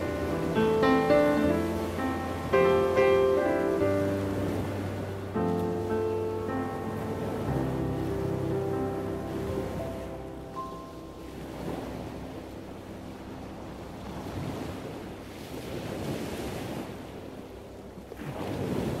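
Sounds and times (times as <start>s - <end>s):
waves washing in and out: 0.0s - 19.0s
wind: 0.0s - 19.0s.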